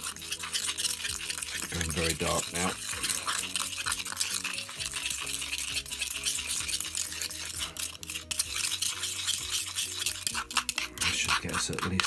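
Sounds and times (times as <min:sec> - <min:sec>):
paste scraped in stone mortar: 0:00.0 - 0:12.0.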